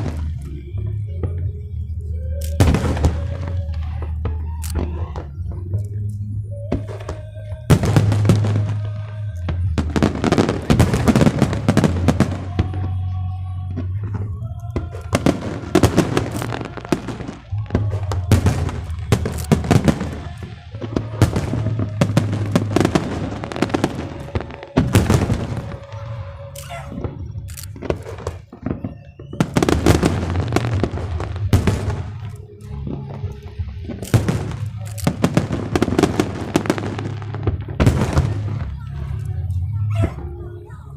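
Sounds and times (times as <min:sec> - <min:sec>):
fireworks bangs and crackles: 0:00.0 - 0:40.9
music playing: 0:00.0 - 0:40.9.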